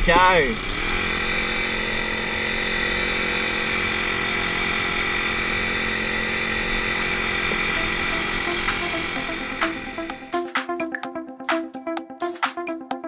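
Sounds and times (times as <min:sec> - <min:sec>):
outboard motor running: 0:00.0 - 0:10.7.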